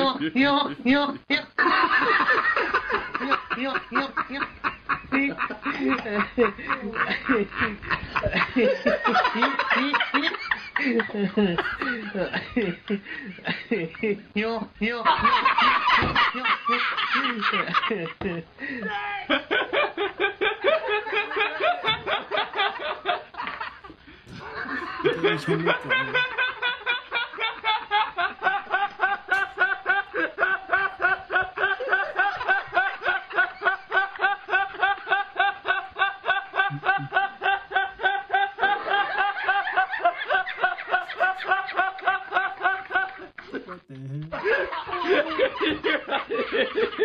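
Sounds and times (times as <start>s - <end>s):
young man laughing: 1.6s - 14.2s, 15.0s - 47.0s.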